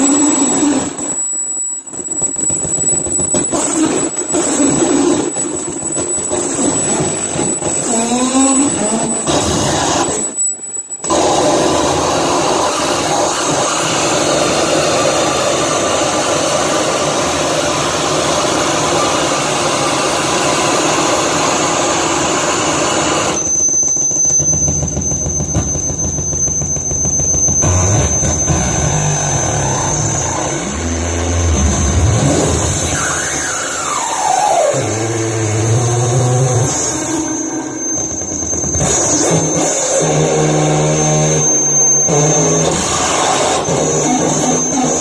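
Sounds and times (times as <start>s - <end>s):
distorted static and feedback: 0.0s - 45.0s
high electronic whine: 0.0s - 45.0s
rising electronic squeals: 0.0s - 45.0s.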